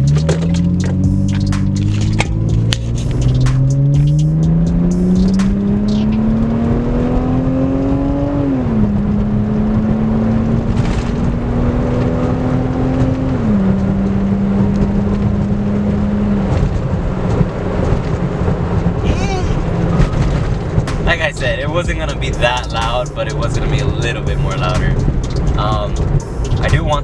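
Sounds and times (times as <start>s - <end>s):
car engine accelerating: 0.0s - 27.0s
road and wind noise: 0.0s - 27.0s.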